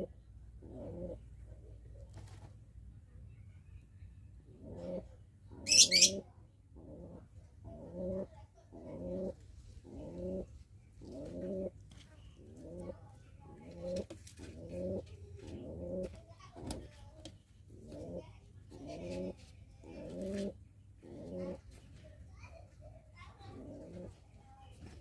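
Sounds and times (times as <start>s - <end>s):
pigeon cooing: 0.0s - 1.3s, 4.5s - 17.0s, 17.7s - 22.5s, 23.2s - 25.0s.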